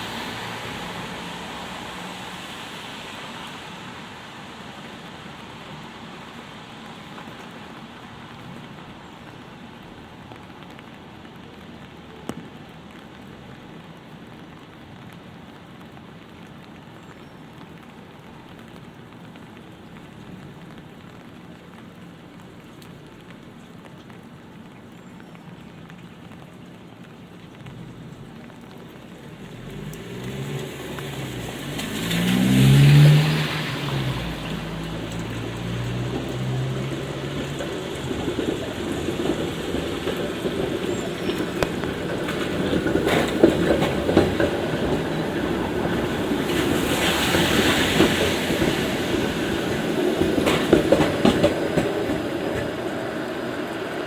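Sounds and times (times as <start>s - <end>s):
vehicle driving by on wet street: 0.0s - 24.7s, 25.8s - 54.0s
light rain falling: 0.0s - 54.0s
tyre and traffic noise: 0.0s - 54.0s.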